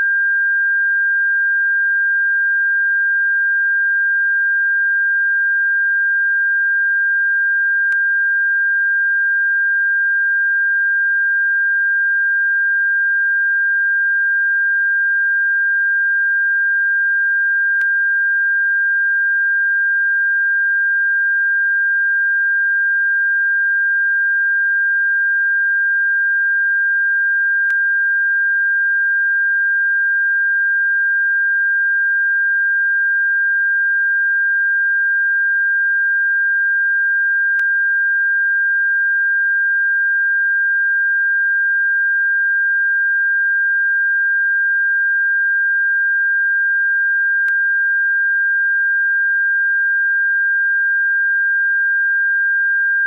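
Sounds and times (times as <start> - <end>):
high steady sine tone: 0.0 - 53.0.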